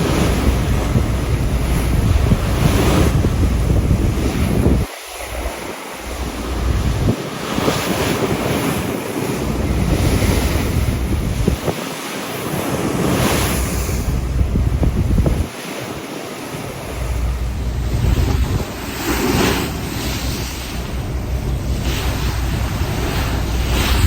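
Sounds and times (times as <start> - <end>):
sea water and waves rushing: 0.0 - 24.0
wind buffeting microphone: 0.0 - 24.0.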